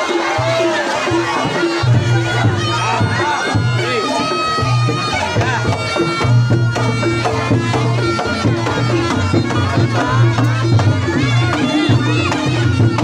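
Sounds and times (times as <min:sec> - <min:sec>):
shawm wailing melody: 0:00.0 - 0:13.0.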